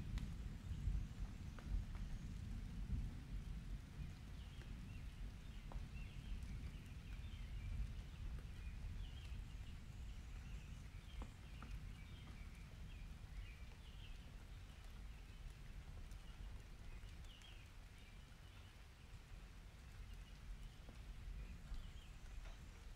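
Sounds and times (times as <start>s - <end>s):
small birds chirping: 4.0s - 22.9s.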